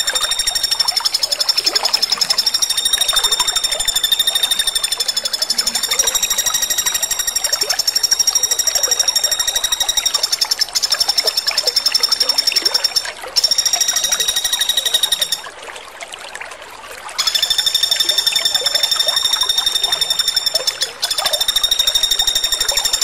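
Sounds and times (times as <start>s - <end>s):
woodpecker rattling trill: 0.0s - 15.5s, 17.2s - 23.0s.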